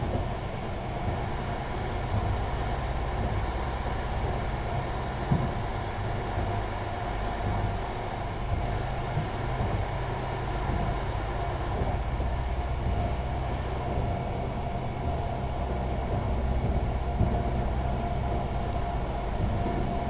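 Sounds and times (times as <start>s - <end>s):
faint steady whine: 0.0s - 20.0s
train running gear rumble: 0.0s - 20.0s.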